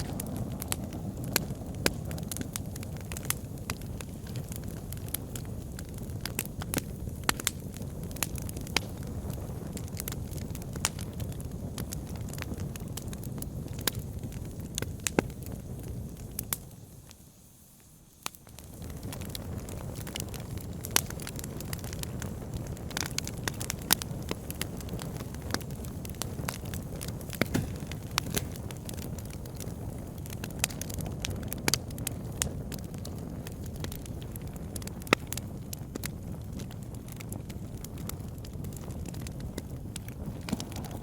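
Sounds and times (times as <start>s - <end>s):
crackles and pops of burning wood: 0.0s - 41.0s
wood fire burning: 0.0s - 41.0s.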